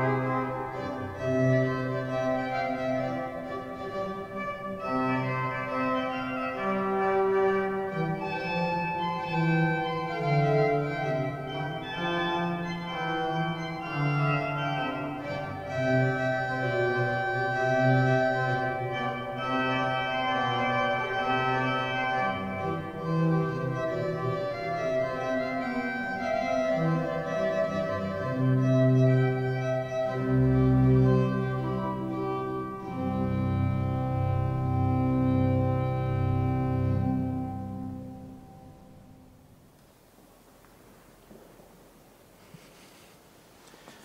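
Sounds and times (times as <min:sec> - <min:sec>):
church pipe organ chords: 0:00.0 - 0:39.5.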